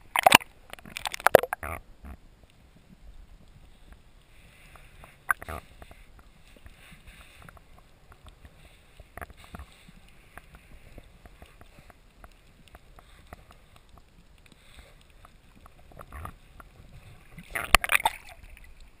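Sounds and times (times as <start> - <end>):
small clicks and crackles: 0.0 - 19.0
underwater rumble of moving water: 0.0 - 19.0.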